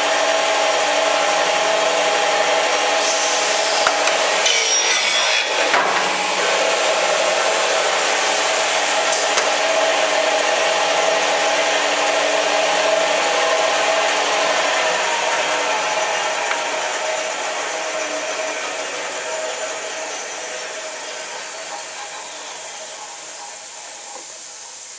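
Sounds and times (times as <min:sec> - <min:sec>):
miter saw motor humming and whining: 0:00.0 - 0:24.0.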